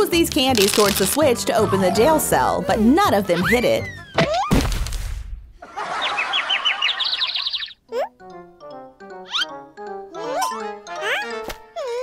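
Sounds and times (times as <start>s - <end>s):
bouncy children's music: 0.0s - 4.5s, 6.4s - 12.0s.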